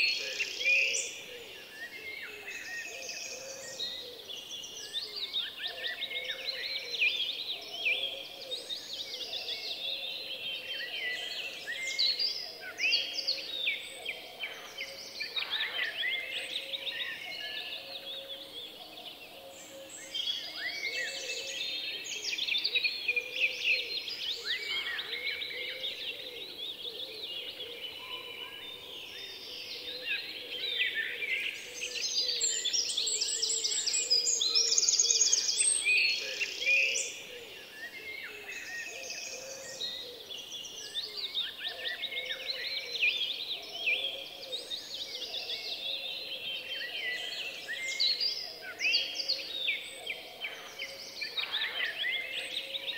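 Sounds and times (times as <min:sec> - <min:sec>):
chorus of birds chirping: 0:00.0 - 0:52.9.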